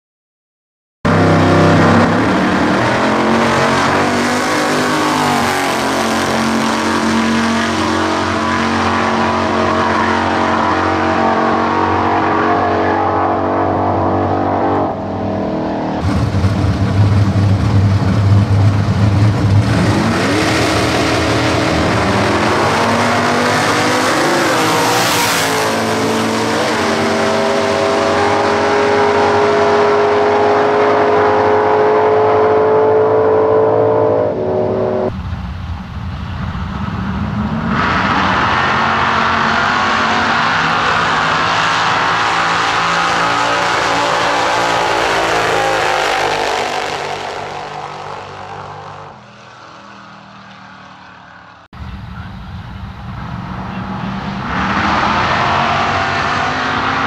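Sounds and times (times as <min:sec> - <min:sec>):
engine revving: 0:01.1 - 0:35.3, 0:36.4 - 0:57.0
drag car engine at full throttle: 0:01.1 - 0:57.0.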